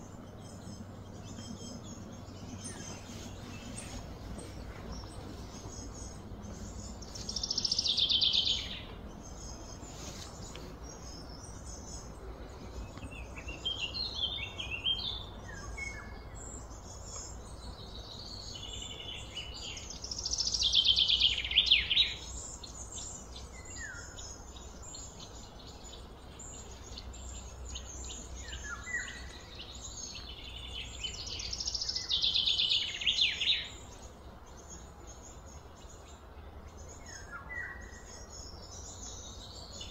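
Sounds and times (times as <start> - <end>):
birds chirping: 0.0 - 39.9
low background rumble: 0.0 - 39.9.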